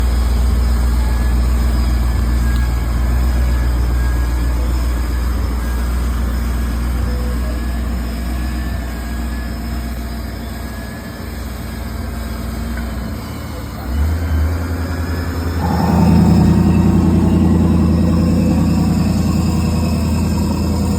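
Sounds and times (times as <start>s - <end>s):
truck engine idling: 0.0s - 20.9s.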